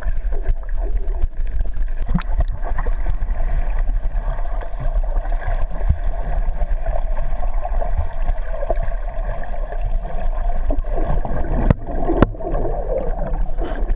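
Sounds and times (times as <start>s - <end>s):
gurgling water: 0.0s - 13.9s
muffled underwater rumble: 0.0s - 13.9s.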